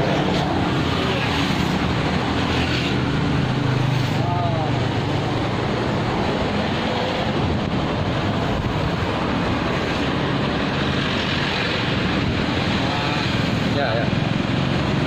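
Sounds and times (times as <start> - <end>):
roadside traffic rumble: 0.0 - 15.0.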